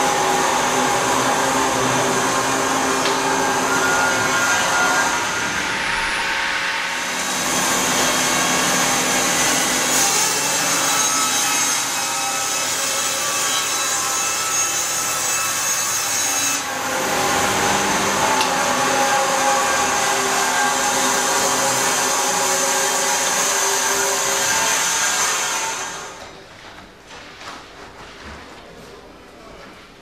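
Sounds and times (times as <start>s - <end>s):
band saw cutting log: 0.0s - 26.2s.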